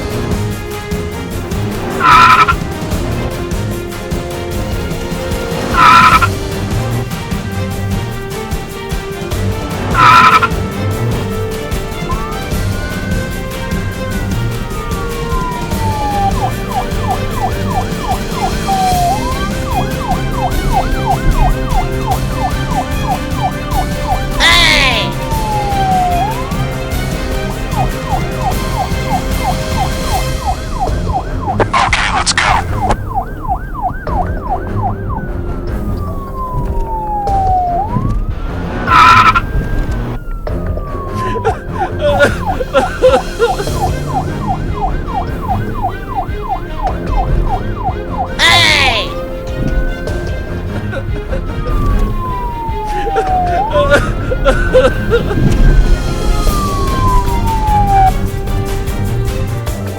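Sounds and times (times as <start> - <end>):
background music: 0.0 - 59.9
siren wailing and yelping: 2.0 - 2.6, 5.7 - 6.4, 9.9 - 10.6, 12.0 - 59.1.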